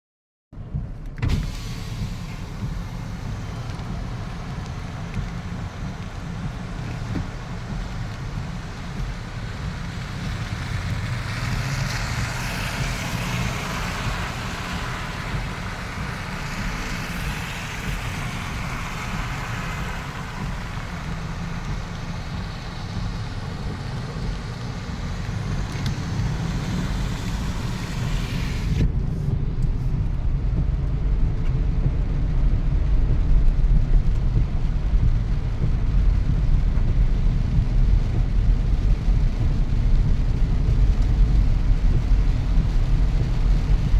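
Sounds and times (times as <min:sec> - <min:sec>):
heavy low rumble: 0:00.6 - 0:43.9
rain hiss: 0:01.1 - 0:43.9.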